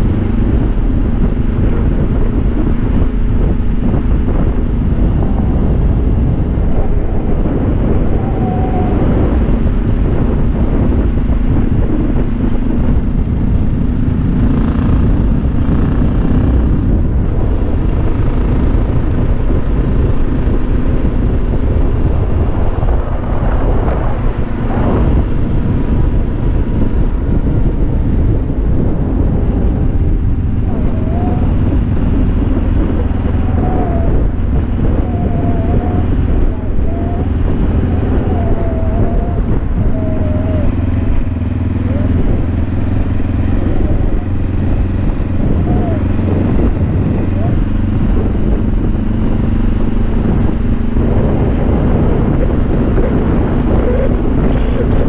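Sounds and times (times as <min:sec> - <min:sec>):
motorcycle engine droning: 0:00.0 - 0:55.0
wind buffeting microphone: 0:00.0 - 0:55.0.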